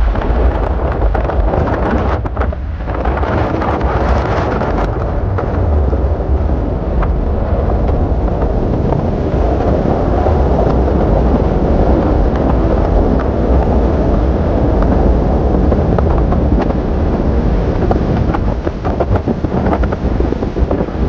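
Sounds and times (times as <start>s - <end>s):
vehicle road noise rumble: 0.0s - 21.0s
wind buffeting microphone: 0.0s - 21.0s.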